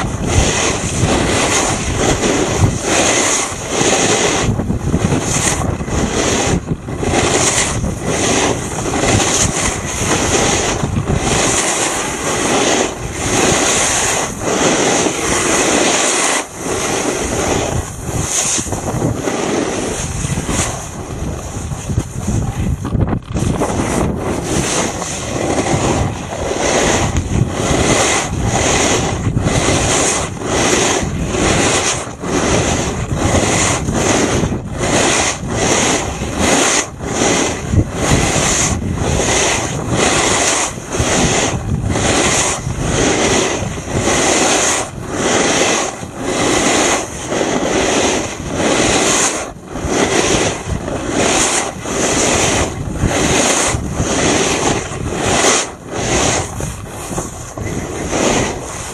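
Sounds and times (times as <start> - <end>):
board edges scraping snow: 0.0 - 58.9
wind over microphone: 0.0 - 58.9.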